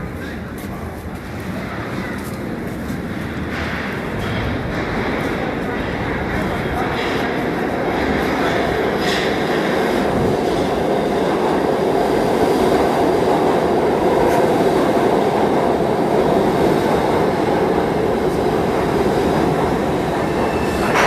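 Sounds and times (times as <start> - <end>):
subway train rumbling: 0.0 - 21.0.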